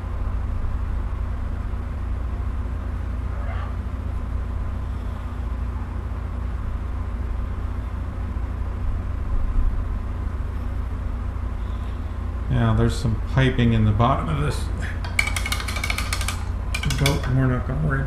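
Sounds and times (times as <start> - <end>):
low hum and rumble: 0.0 - 15.4, 16.0 - 18.0.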